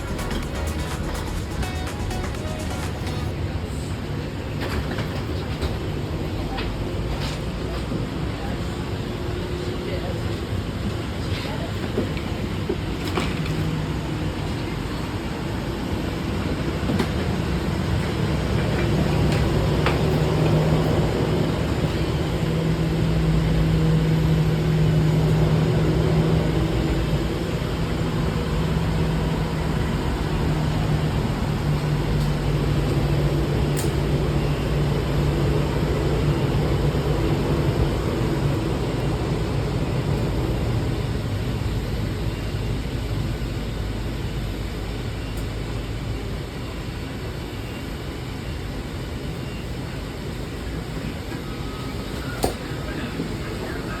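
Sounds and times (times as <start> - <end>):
jet aircraft hum: 0.0 - 6.2, 7.9 - 54.0
airport ground equipment: 0.0 - 54.0.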